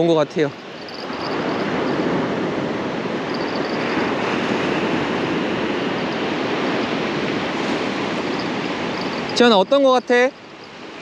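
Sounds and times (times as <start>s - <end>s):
surf breaking on beach: 1.0s - 11.0s.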